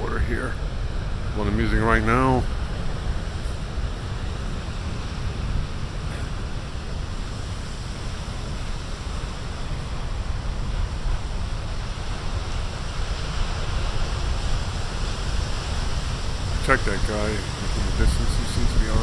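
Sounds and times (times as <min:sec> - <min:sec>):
ocean waves breaking: 0:00.0 - 0:19.0
wind rumbling on microphone: 0:00.0 - 0:19.0.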